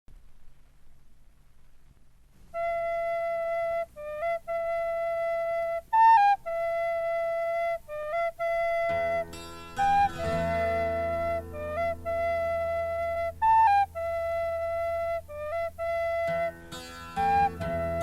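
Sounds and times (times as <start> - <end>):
recorder playing slow melody: 2.6 - 18.0.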